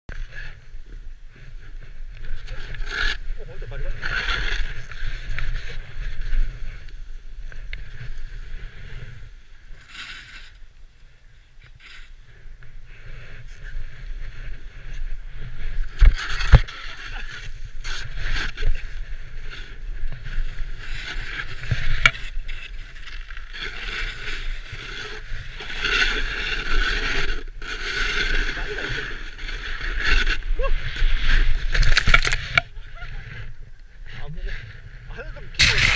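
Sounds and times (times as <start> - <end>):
wind rumbling on microphone: 0.1 - 35.9
snowboard scraping over snow: 0.2 - 35.9.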